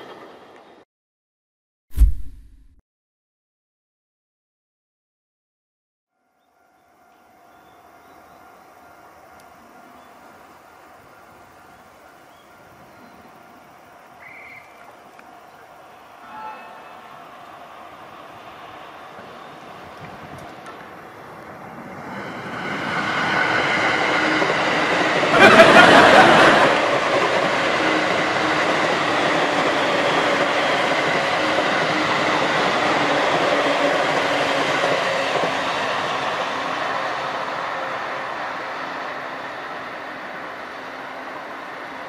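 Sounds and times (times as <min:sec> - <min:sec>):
electric train passing: 0:06.1 - 0:42.0.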